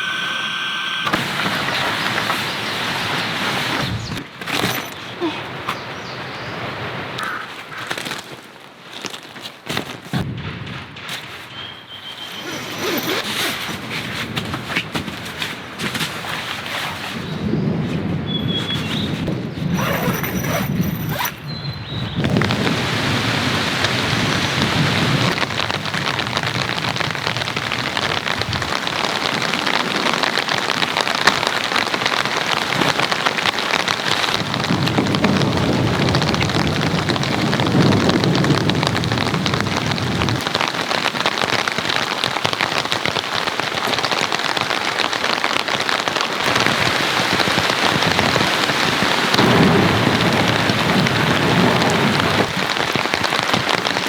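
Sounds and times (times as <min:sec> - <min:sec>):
rain falling: 0:00.0 - 0:11.4, 0:12.2 - 0:16.7, 0:22.2 - 0:54.0.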